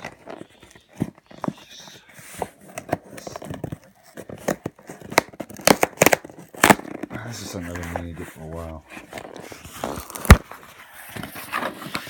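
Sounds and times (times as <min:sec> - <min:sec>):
tool scraping packing tape: 0:00.0 - 0:08.1, 0:09.2 - 0:12.0
tape tearing: 0:00.0 - 0:08.3, 0:08.9 - 0:12.0.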